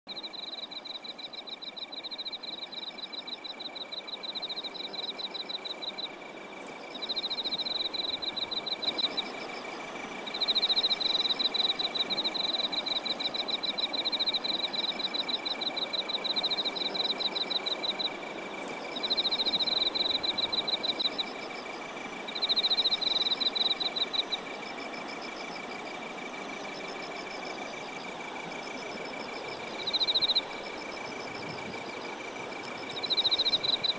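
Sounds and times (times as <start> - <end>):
insect fast pulsing chirps: 0.1 - 33.9
insect high continuous trill: 0.1 - 33.9.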